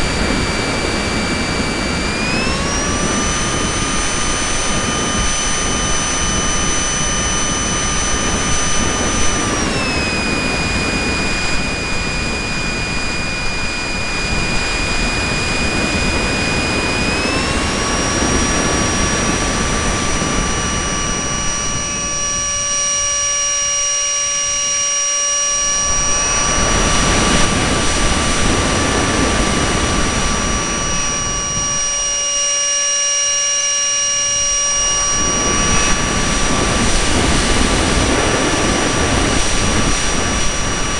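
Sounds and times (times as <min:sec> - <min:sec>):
model airplane motor whining: 0:00.0 - 0:40.9
wind noise on microphone: 0:00.0 - 0:40.9.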